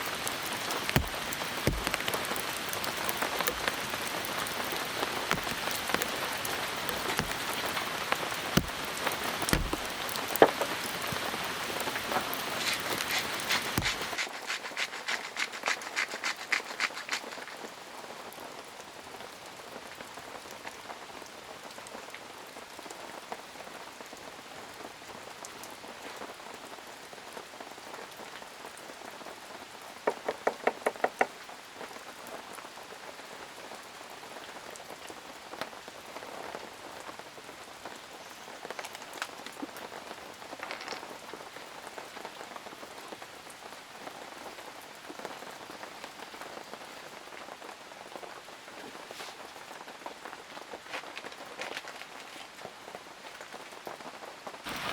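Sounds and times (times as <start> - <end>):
rain pattering on surfaces: 0.0 - 54.9.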